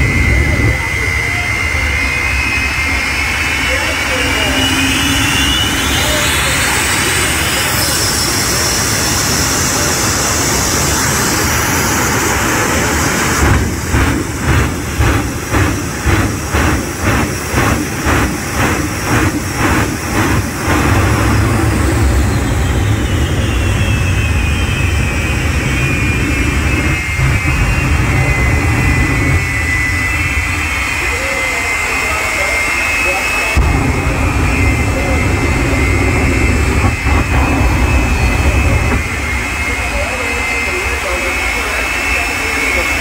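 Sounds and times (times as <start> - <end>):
afterburners pulsing: 0.0 - 43.0
high turbine whine: 0.0 - 43.0
jet engines roaring: 0.0 - 43.0.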